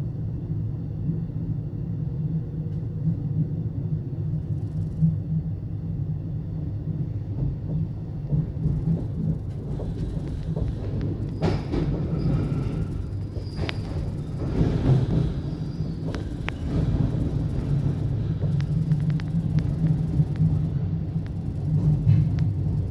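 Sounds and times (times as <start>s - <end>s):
electric train rumbling in tunnel: 0.0s - 22.9s.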